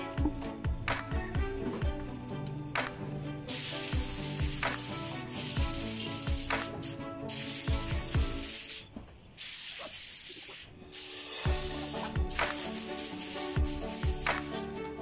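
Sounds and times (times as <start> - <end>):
music with steady beat: 0.0 - 8.6, 11.1 - 15.0.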